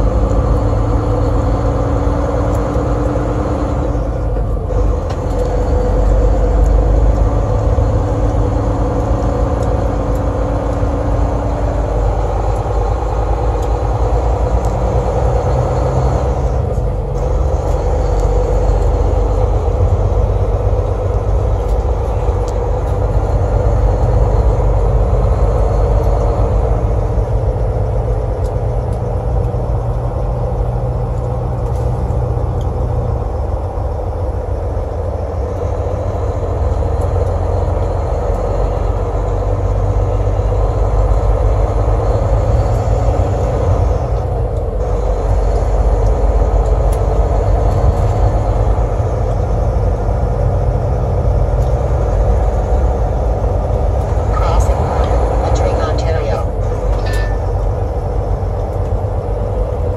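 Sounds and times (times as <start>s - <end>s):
engine rumble inside vehicle: 0.0s - 59.9s
tyre road noise: 0.0s - 59.9s.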